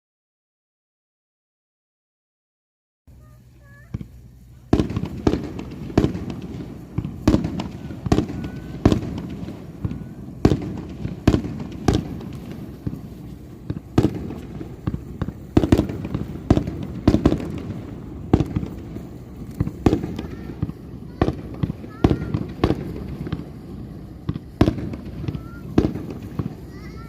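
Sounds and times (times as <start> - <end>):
fireworks bangs: 3.1 - 27.0
fireworks rumble and crackle: 3.1 - 27.0.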